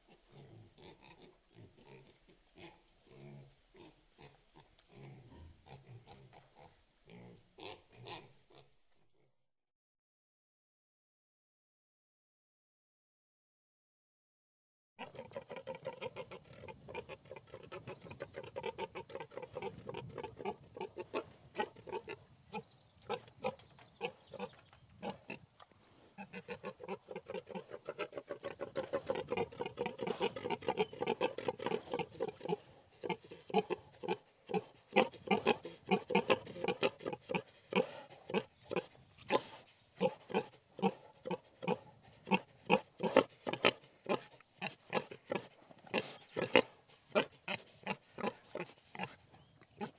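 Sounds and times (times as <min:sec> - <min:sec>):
pigs grunting: 0:00.1 - 0:08.7, 0:15.0 - 0:25.5, 0:26.2 - 0:49.9.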